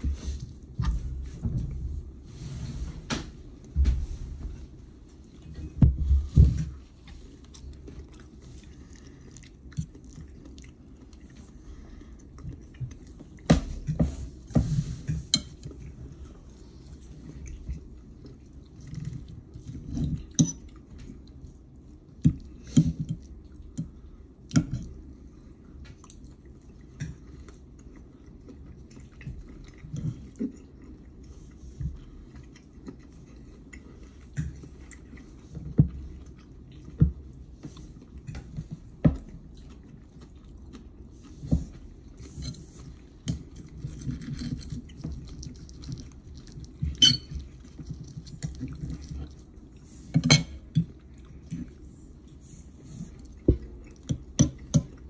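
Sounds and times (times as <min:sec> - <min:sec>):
person chewing: 0:06.7 - 0:14.4, 0:15.2 - 0:55.0.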